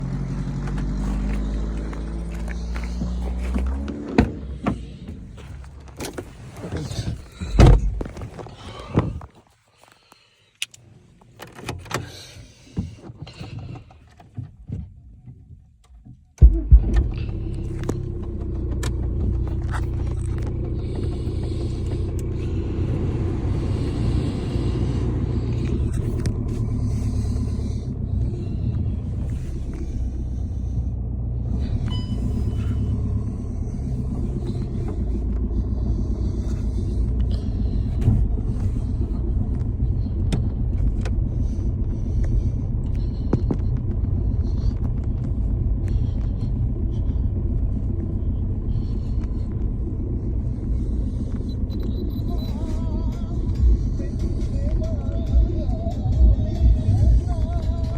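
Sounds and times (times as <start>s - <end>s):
diesel engine idling: 0.0s - 9.2s, 16.4s - 57.9s.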